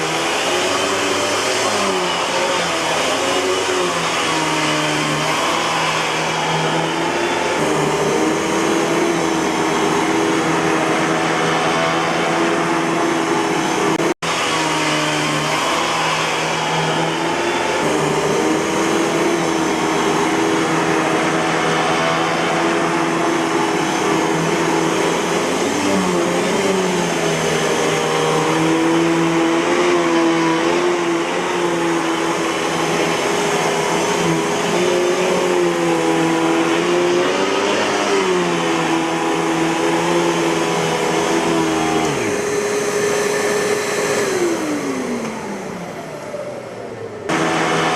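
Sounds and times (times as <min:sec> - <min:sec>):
vacuum cleaner motor whine: 0:00.0 - 0:47.9.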